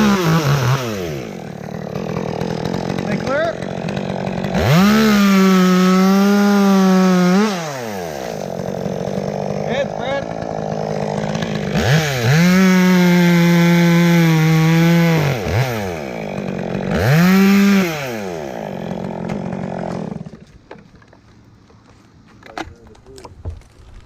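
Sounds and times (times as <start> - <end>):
chainsaw revving and idling: 0.0 - 20.5.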